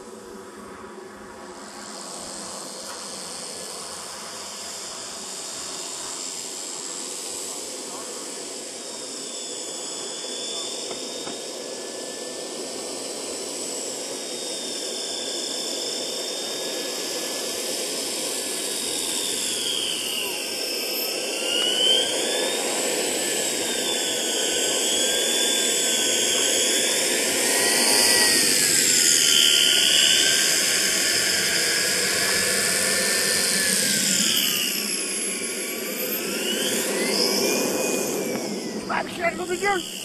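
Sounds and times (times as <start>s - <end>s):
model turboprop turbine whine: 0.0s - 40.0s.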